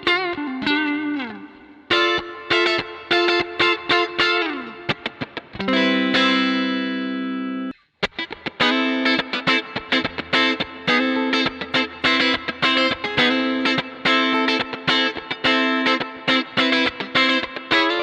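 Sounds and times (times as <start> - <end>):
electric guitar with tremolo: 0.0 - 18.0.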